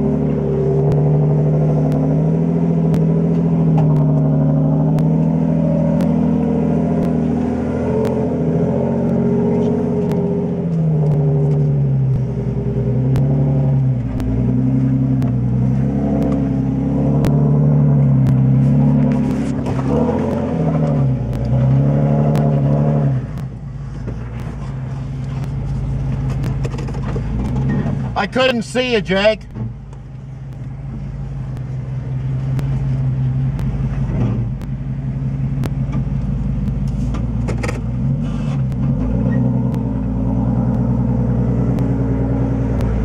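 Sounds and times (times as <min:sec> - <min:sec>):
engine revving under load: 0:00.0 - 0:28.2, 0:30.5 - 0:43.0.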